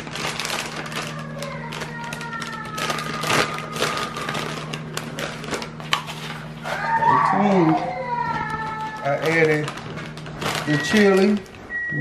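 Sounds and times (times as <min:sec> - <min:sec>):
plastic packaging crinkling: 0:00.0 - 0:11.7
steady low hum: 0:00.0 - 0:12.0.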